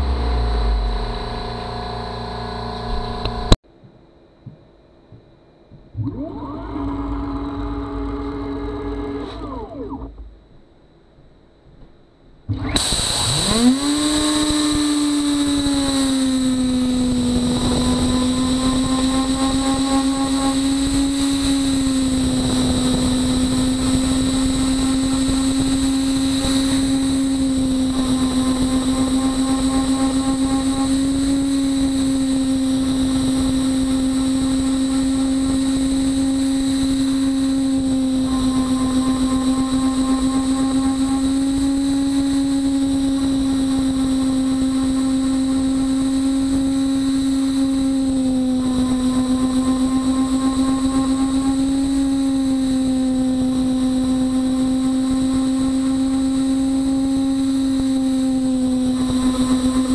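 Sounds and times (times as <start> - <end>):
router spindle whine: 0.0 - 3.6, 6.0 - 10.6, 12.5 - 59.9.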